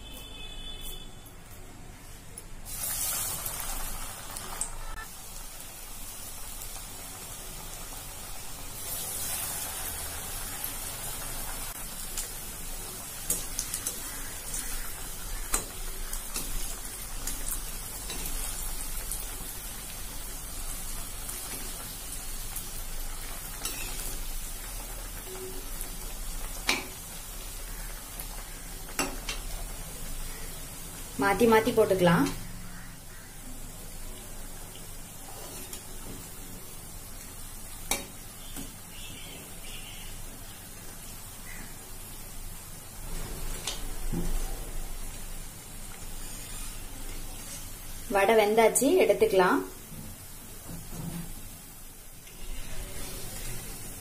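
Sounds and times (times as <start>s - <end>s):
fritters sizzling in hot oil: 0.1s - 54.0s.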